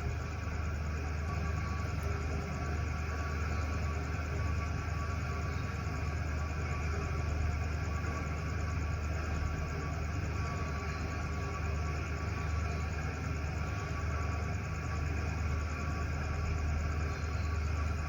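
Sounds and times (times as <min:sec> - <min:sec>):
faint steady tones: 0:00.0 - 0:18.0
steady low hum: 0:00.0 - 0:18.0.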